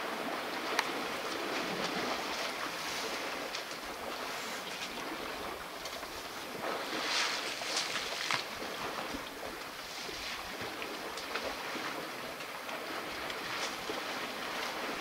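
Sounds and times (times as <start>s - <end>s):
elephants splashing water: 0.3s - 15.0s.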